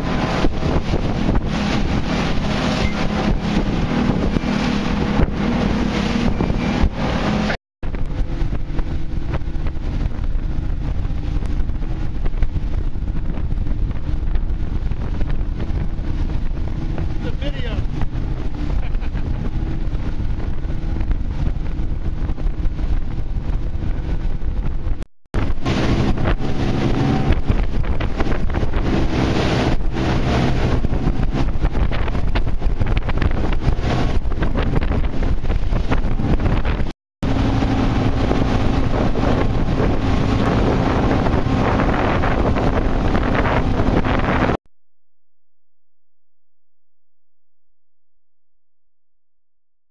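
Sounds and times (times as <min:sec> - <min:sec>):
outboard motors running: 0:00.0 - 0:44.6
wind buffeting microphone: 0:00.0 - 0:44.6.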